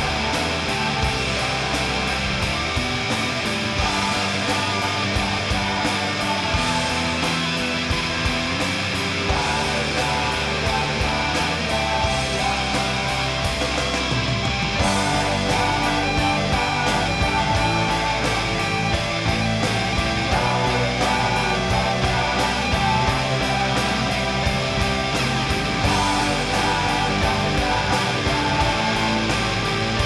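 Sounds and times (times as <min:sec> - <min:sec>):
bass: 0:00.0 - 0:30.0
distorted electric guitars: 0:00.0 - 0:30.0
steady drum beat: 0:00.0 - 0:30.0.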